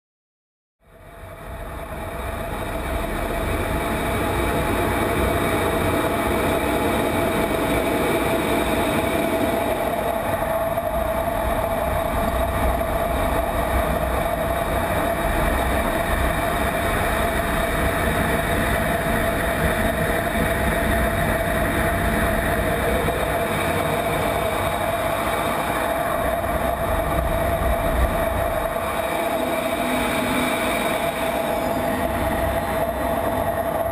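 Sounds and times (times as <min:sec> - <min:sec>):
jet engine and airflow rush: 0:01.1 - 0:33.9.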